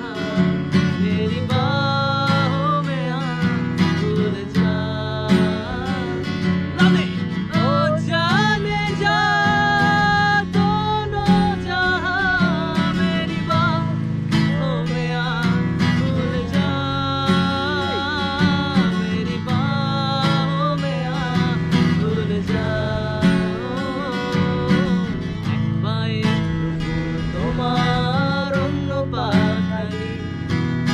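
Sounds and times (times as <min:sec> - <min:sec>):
acoustic guitar strummed: 0:00.0 - 0:30.9.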